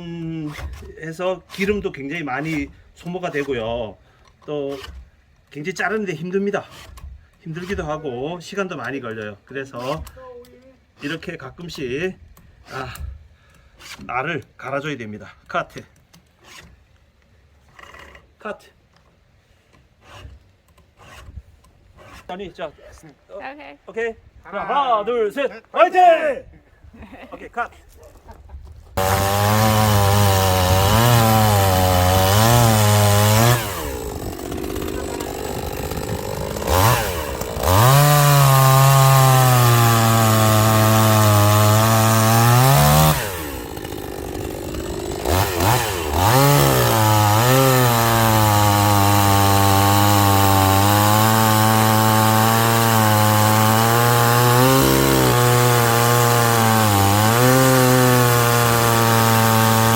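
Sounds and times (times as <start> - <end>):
chainsaw cutting logs: 0.0 - 14.6, 15.5 - 16.9, 17.6 - 18.5, 19.7 - 22.4, 29.0 - 59.9.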